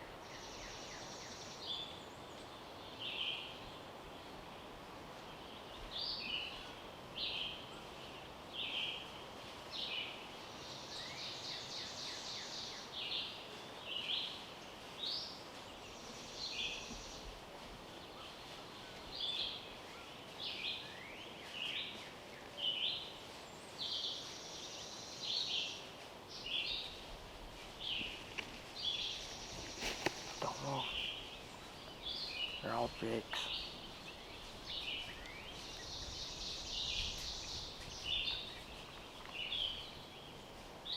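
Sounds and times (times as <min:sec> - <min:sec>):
small songbirds chirping: 0:00.0 - 0:40.9.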